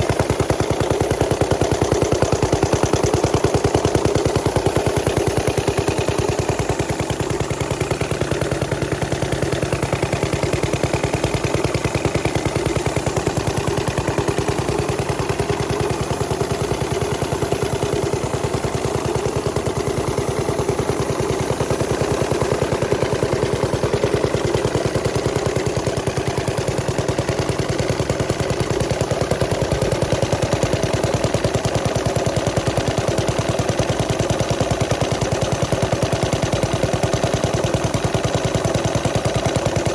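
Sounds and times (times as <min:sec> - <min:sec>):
small gas engine popping: 0:00.0 - 0:39.9.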